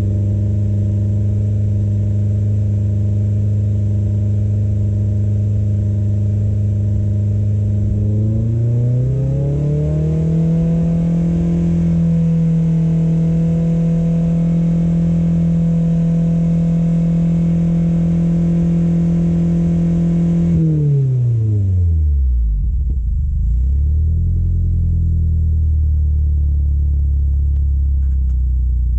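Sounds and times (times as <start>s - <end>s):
car engine revving and idling: 0.0s - 28.9s.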